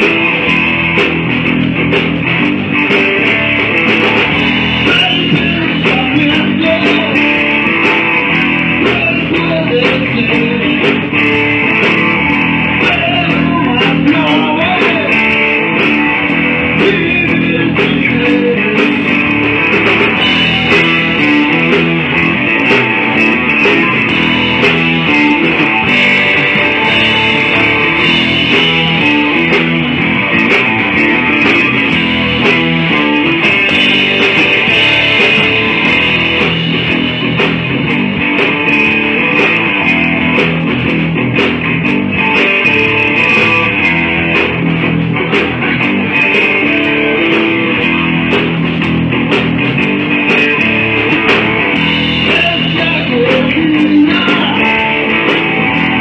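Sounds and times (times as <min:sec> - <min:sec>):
bass guitar: 0:00.0 - 0:56.0
drums: 0:00.0 - 0:56.0
electric guitar: 0:00.0 - 0:56.0.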